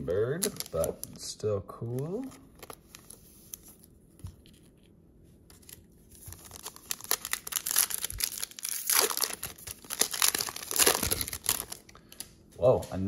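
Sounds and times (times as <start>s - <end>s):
foil wrapper crinkling and tearing: 0.1s - 1.2s, 1.8s - 4.8s, 5.5s - 12.2s.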